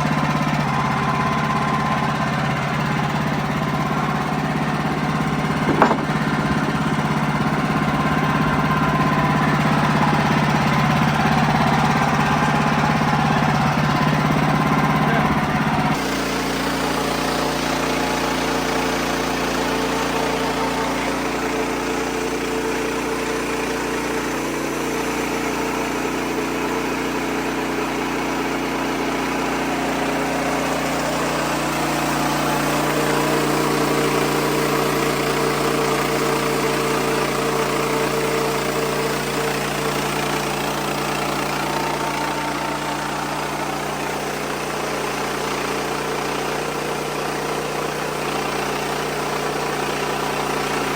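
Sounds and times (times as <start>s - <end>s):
band sawmill cutting a log: 0.0s - 50.9s.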